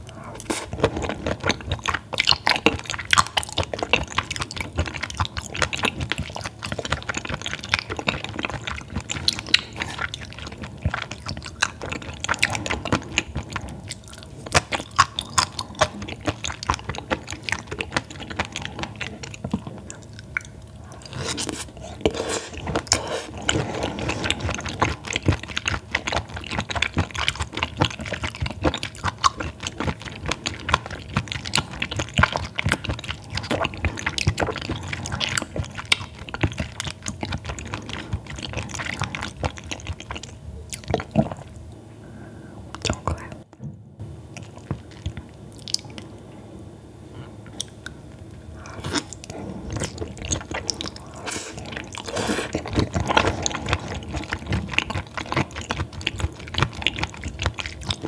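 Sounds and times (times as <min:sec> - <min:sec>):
wet chewing and mouth noises: 0:00.0 - 0:41.8, 0:42.7 - 0:43.6, 0:44.2 - 0:46.3, 0:47.2 - 0:58.0.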